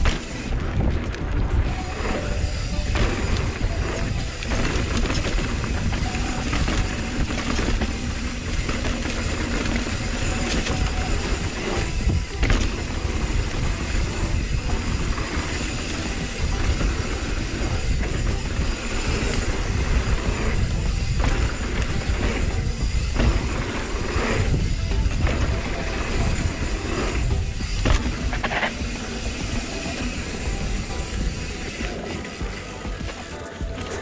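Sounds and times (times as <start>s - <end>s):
bike rattling over bumps: 0.0s - 34.0s
wind and tyre noise: 0.0s - 34.0s.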